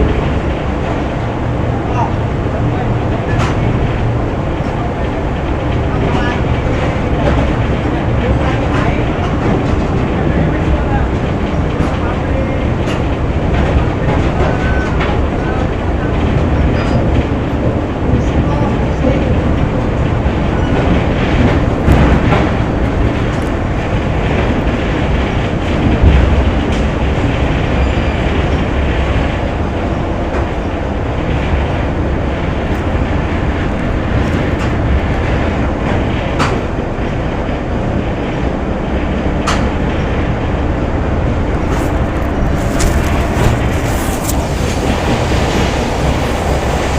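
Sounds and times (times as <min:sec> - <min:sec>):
machinery rumbling: 0:00.0 - 0:46.9.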